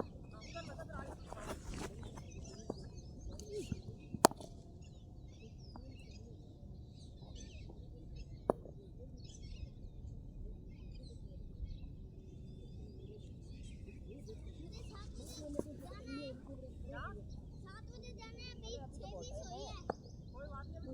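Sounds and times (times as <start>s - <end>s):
small birds chirping: 0.0s - 20.9s
steady outdoor background: 0.0s - 20.9s.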